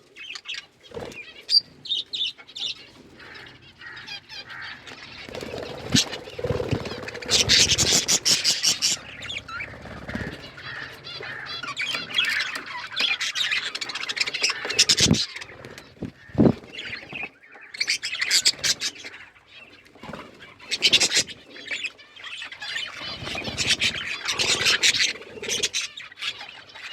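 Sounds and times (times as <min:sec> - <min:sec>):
budgerigars chirping and chattering: 0:00.0 - 0:26.9.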